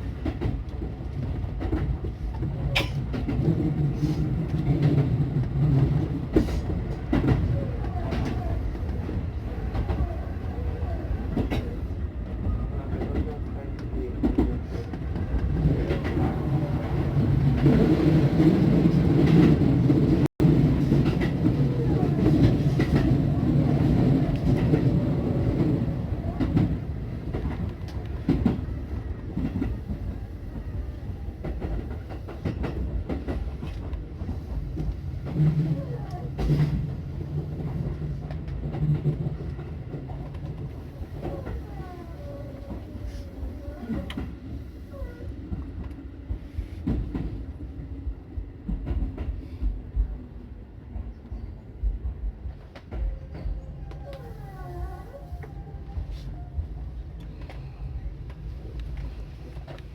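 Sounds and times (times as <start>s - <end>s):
train low hum: 0.0s - 59.9s.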